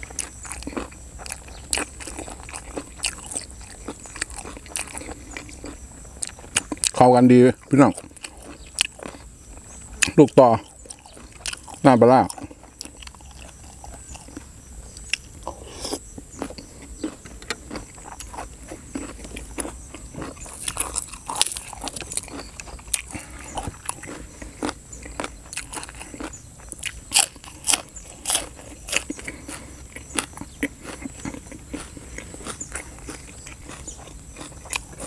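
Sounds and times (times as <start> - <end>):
food crunching: 0.0 - 35.0
wet chewing mouth sounds: 0.0 - 35.0.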